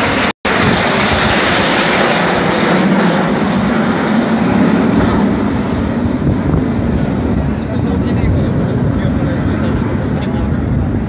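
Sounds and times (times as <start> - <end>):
jet aircraft flying over: 0.0 - 11.0.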